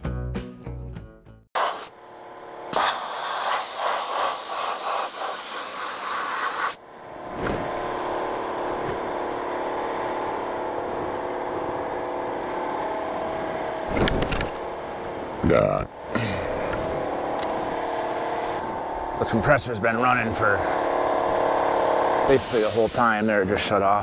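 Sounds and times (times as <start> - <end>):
sandblaster hissing: 1.6 - 15.2, 16.6 - 24.0
air compressor running: 1.6 - 24.0.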